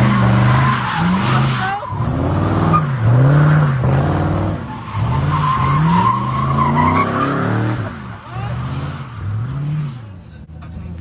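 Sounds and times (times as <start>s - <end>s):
tires squealing on pavement: 0.0s - 10.1s
car engine revving: 0.0s - 11.0s.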